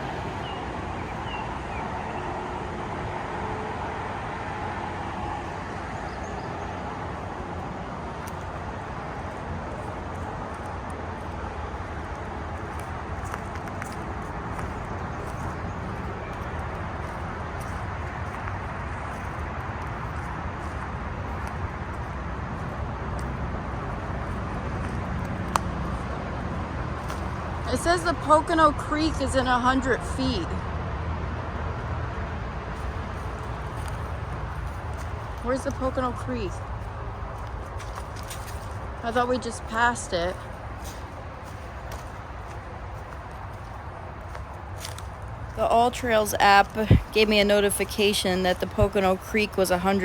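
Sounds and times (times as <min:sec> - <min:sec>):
highway traffic rumble: 0:00.0 - 0:50.0.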